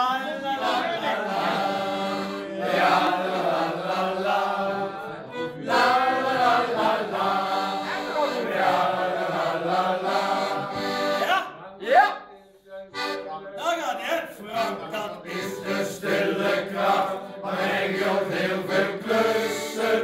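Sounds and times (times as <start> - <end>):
men singing together: 0.0 - 11.2, 14.6 - 20.0
piano accordion: 0.0 - 11.4, 12.9 - 13.7, 14.4 - 20.0.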